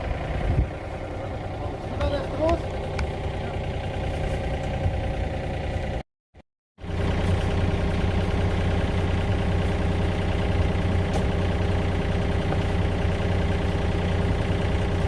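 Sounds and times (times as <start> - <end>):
heavy machinery engine humming: 0.0 - 6.0, 6.8 - 15.0.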